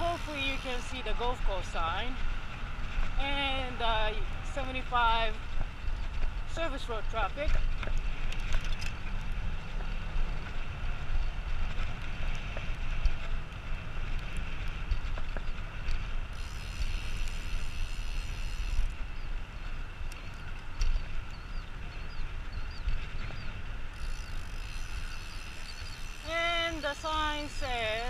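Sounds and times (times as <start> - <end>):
bike tyres rumbling on concrete: 0.0 - 28.0
wind buffeting microphone: 0.0 - 28.0.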